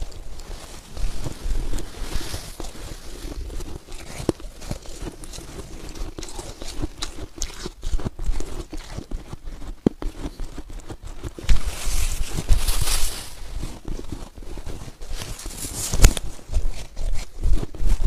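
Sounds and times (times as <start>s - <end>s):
crunching of soft snow: 0.0s - 18.0s.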